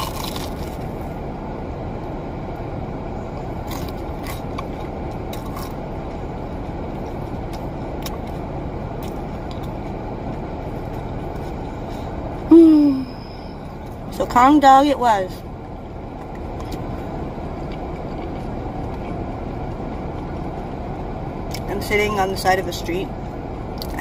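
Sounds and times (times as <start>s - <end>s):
car interior rumble: 0.0s - 24.0s.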